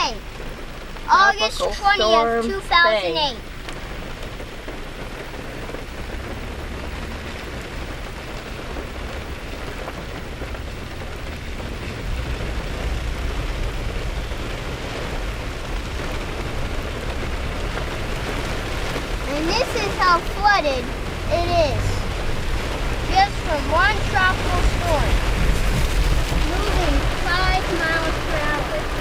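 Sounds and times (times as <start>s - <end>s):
heavy rain pouring: 0.0s - 29.0s
low rumble: 1.8s - 29.0s.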